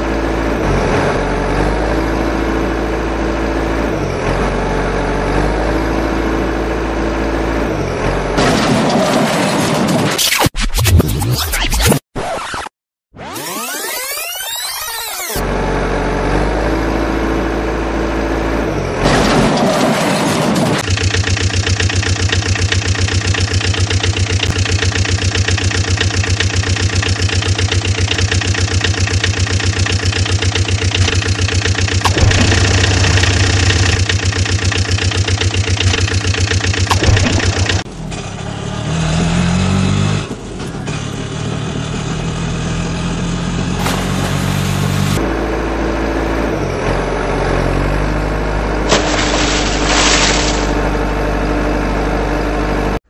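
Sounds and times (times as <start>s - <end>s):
vehicle engine running and revving: 0.0s - 10.1s, 15.3s - 53.0s.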